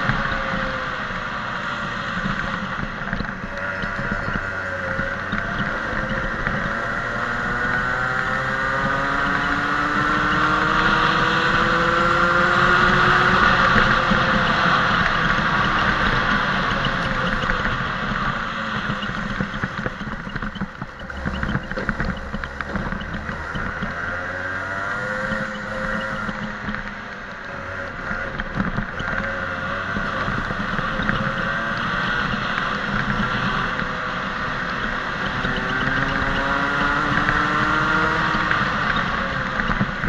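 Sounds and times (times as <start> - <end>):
racing kart engine revving: 0.0 - 40.0.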